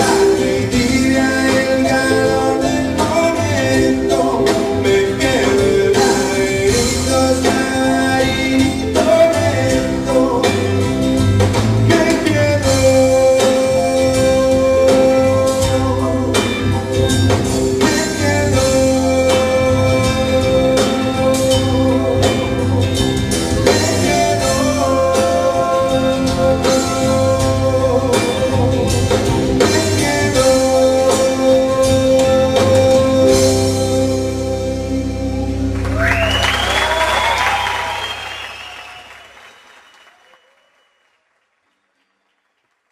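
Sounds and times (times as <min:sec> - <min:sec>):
live rock band playing: 0:00.0 - 0:39.1.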